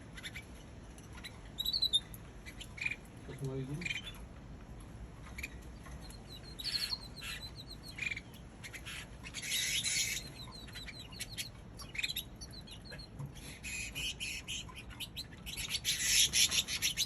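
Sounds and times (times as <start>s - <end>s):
canary chirping: 0.0s - 4.3s, 5.2s - 17.0s.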